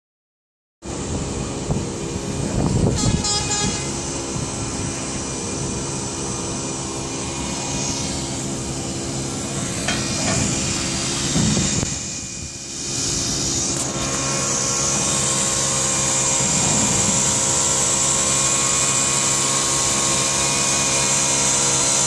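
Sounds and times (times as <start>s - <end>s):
hydraulic machine humming: 0.8s - 22.0s.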